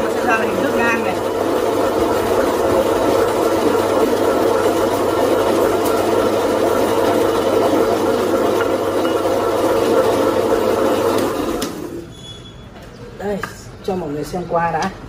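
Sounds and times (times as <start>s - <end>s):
meat slicer whirring: 0.0s - 12.1s.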